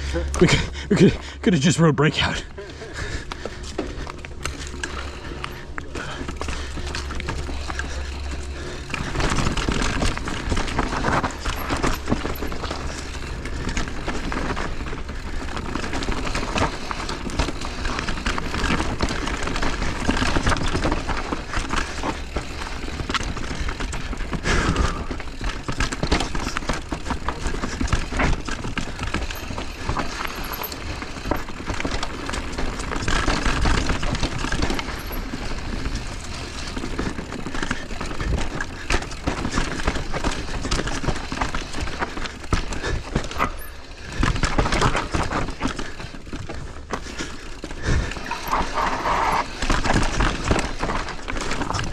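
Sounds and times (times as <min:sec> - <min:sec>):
mountain bike clattering over rock: 0:02.8 - 0:51.9.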